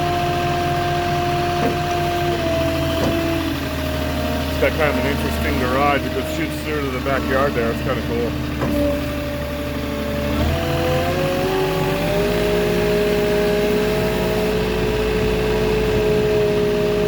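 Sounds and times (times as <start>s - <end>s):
forklift engine revving: 0.0s - 17.0s.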